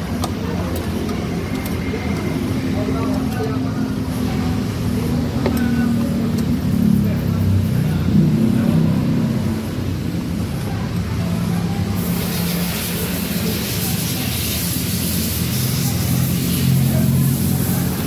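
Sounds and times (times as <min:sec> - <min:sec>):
engine-like hum: 0:00.0 - 0:18.0.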